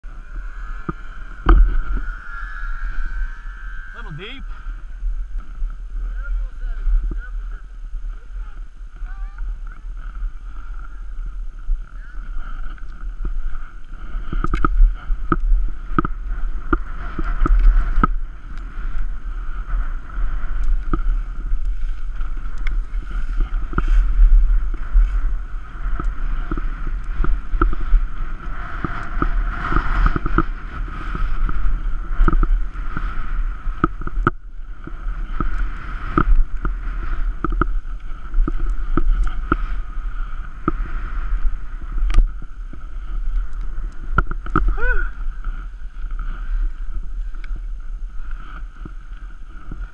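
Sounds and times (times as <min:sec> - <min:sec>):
skis sliding over snow: 0:00.0 - 0:49.9
wind noise: 0:00.0 - 0:49.9
skis knocking on bumps: 0:09.0 - 0:49.9.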